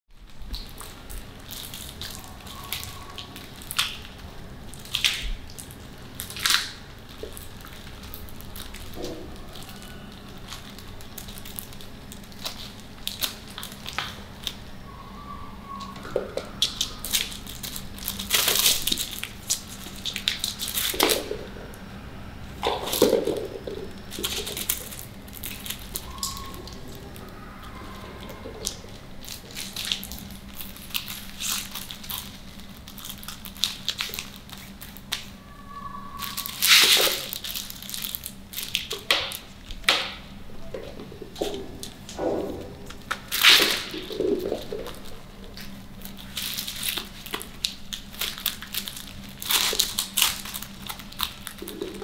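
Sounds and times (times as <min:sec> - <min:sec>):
plastic sheets crinkling: 0:00.2 - 0:14.7, 0:16.6 - 0:21.8, 0:22.6 - 0:52.0.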